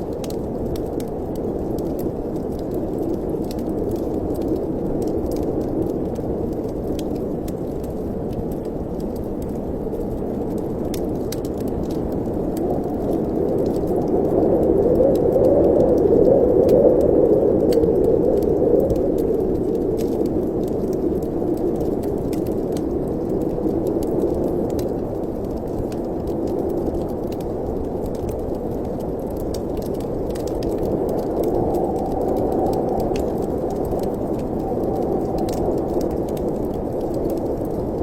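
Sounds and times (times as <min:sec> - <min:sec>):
wind rushing through chimney: 0:00.0 - 0:38.0
faint ticks: 0:00.1 - 0:38.0.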